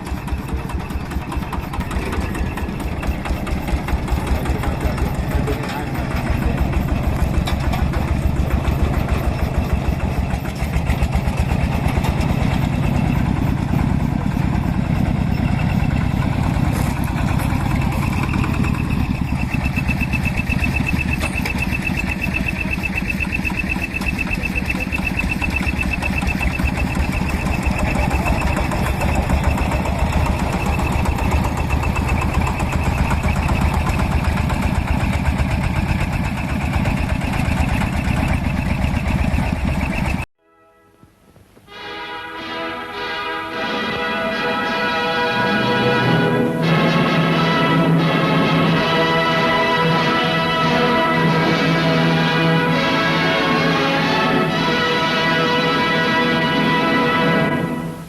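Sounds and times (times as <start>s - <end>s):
stationary engines running: 0.0s - 40.3s, 44.0s - 58.0s.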